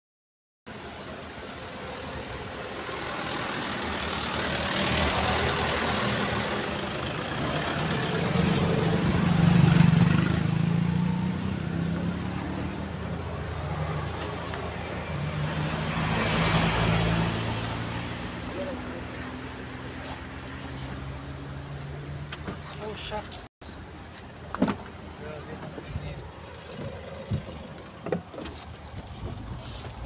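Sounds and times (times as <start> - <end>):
road noise: 0.7 - 30.0.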